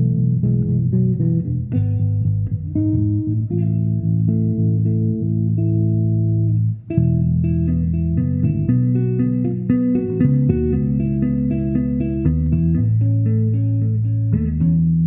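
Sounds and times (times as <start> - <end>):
electric bass chords: 0.0 - 15.0.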